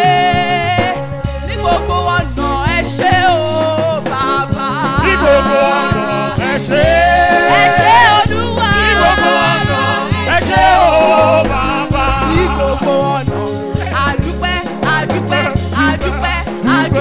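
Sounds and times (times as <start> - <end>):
woman singing gospel song: 0.0 - 1.0, 1.6 - 13.3, 14.8 - 17.0
backing vocalists: 0.0 - 17.0
band music with bass and drums: 0.0 - 17.0.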